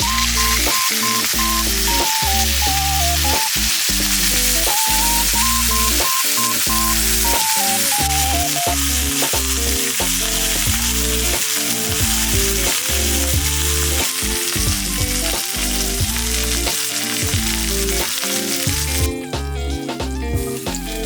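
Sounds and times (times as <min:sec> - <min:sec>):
background music: 0:00.0 - 0:21.0
meat sizzling in a frying pan: 0:00.0 - 0:21.0.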